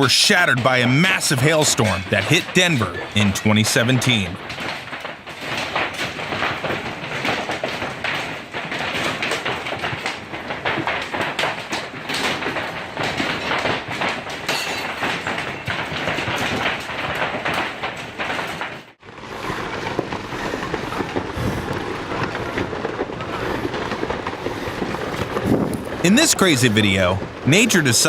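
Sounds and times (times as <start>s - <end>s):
hailstones pelting windows: 0.0s - 28.0s.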